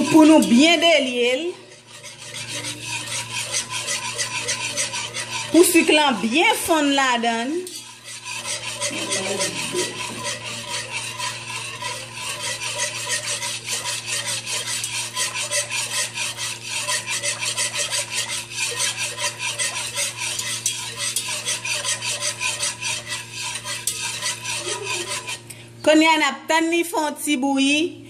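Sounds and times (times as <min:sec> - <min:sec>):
metal spoon scraping a pot: 0:00.0 - 0:25.6.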